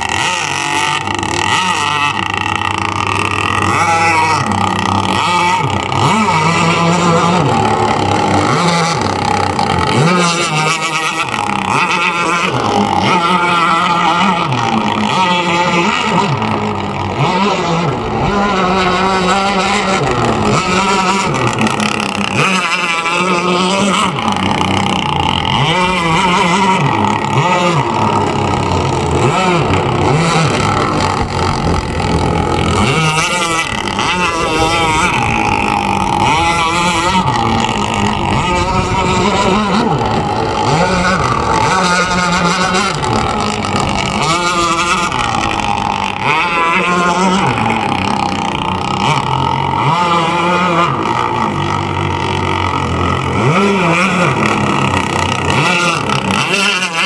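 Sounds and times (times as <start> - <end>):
model speedboat engine running: 0.0 - 57.0.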